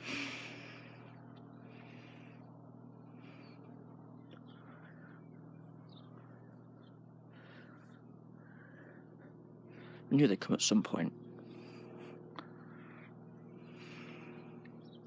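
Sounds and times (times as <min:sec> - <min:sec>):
steady low hum: 0:00.0 - 0:15.0
small birds chirping: 0:00.2 - 0:15.0.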